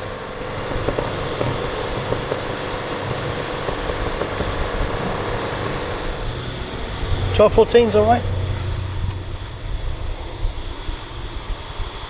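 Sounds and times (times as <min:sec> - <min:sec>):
machine humming and hissing: 0:00.0 - 0:12.0.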